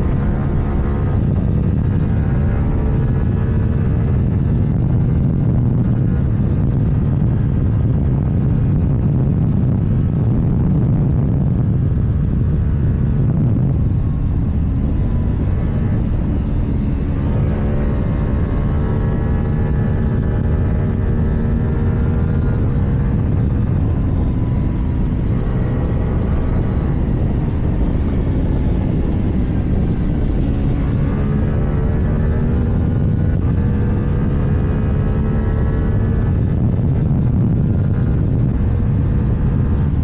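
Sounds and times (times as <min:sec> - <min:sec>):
heavy wind: 0:00.0 - 0:40.0
motorcycle engine cruising: 0:00.0 - 0:40.0
road rumble: 0:00.0 - 0:40.0.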